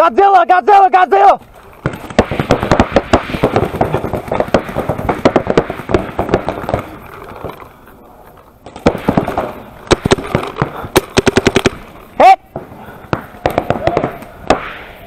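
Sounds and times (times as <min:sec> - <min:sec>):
paintball markers firing: 0:01.7 - 0:07.7, 0:08.7 - 0:14.9.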